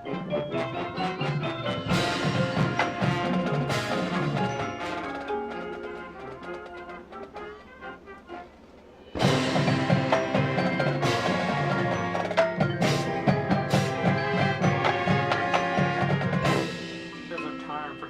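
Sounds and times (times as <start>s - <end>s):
mallet percussion: 0.0s - 6.0s, 9.2s - 18.0s
marching band playing: 0.0s - 18.0s.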